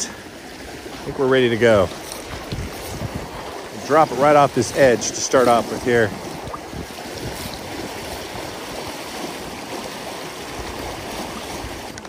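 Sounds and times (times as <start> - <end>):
river running over gravel: 0.0 - 12.0.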